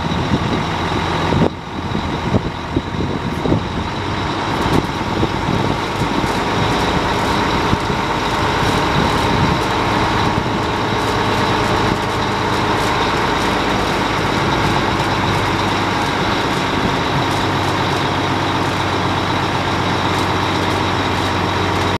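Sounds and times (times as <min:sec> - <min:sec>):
hydraulic pump whine: 0:00.0 - 0:21.9
truck engine drone: 0:00.0 - 0:21.9.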